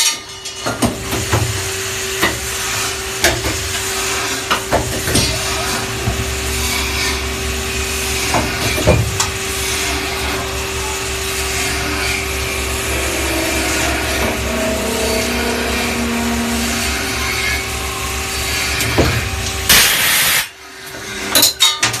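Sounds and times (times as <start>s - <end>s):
lathe machining noise: 1.1s - 21.3s.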